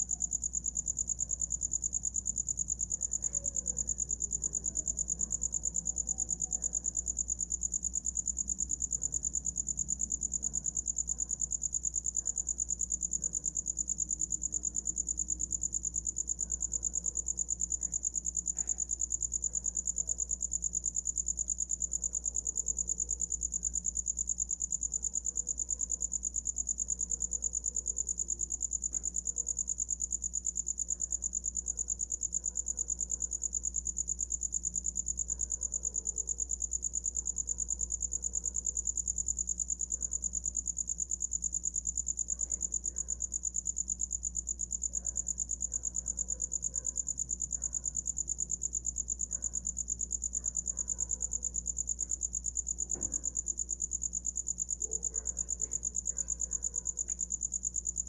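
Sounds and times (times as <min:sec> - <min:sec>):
cricket trilling: 0:00.0 - 0:58.0.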